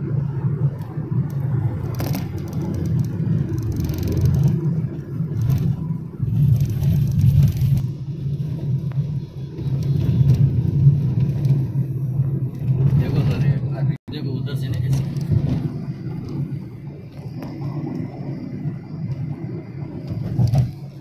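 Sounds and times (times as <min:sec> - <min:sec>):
vehicle interior road rumble: 0:00.0 - 0:21.0.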